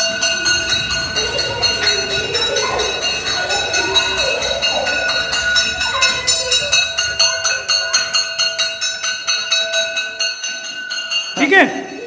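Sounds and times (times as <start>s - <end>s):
metal bell struck rapidly: 0.0s - 12.0s.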